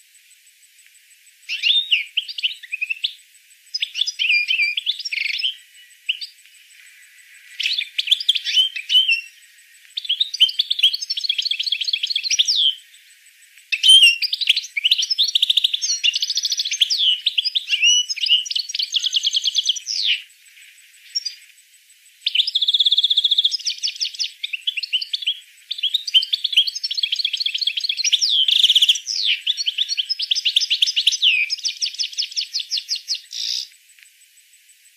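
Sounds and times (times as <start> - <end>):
songbird singing trills: 0.0 - 34.9.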